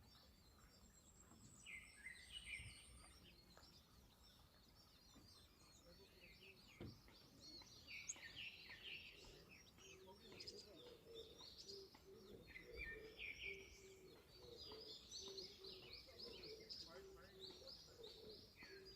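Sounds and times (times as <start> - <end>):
songbirds chirping and twittering: 0.0 - 18.9.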